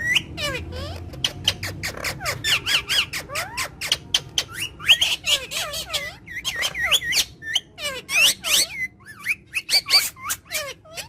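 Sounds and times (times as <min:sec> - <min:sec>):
parrots chattering: 0:00.0 - 0:11.0.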